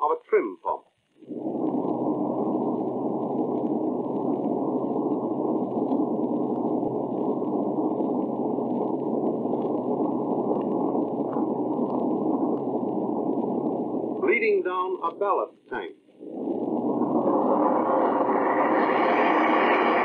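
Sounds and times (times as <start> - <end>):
muffled underwater pump rushing: 1.1 - 20.0.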